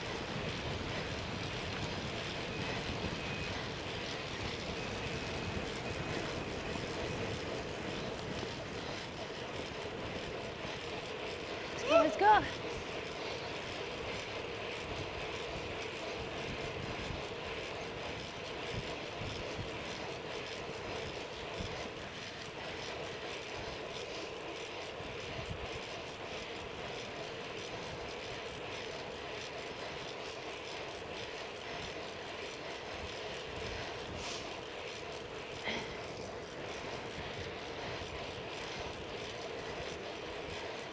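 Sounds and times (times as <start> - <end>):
bicycle tyre road noise: 0.0 - 40.9.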